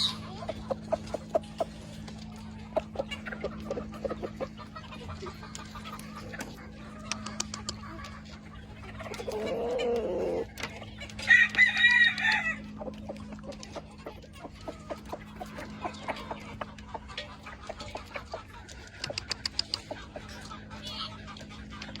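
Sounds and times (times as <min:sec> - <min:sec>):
chickens clucking: 0:00.0 - 0:22.0
roosters crowing: 0:00.0 - 0:22.0.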